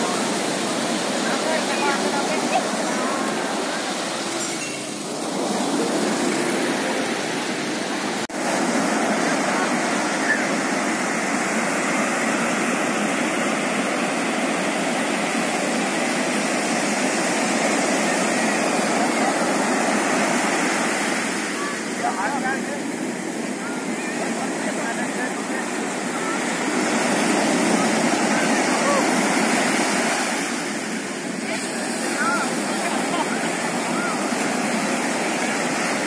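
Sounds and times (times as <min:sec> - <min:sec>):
ocean surf breaking on beach: 0:00.0 - 0:36.0.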